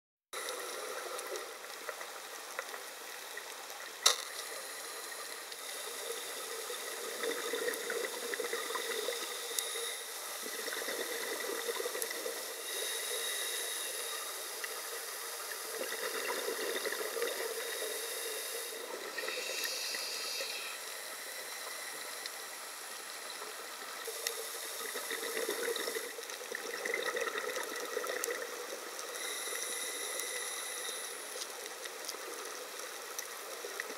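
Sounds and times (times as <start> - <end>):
underwater crackling hiss: 0.4 - 33.9.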